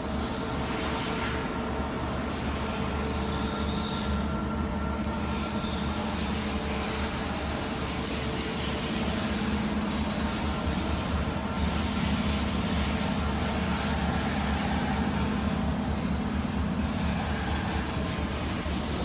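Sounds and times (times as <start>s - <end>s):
lathe feed drive whining: 2.4s - 19.0s.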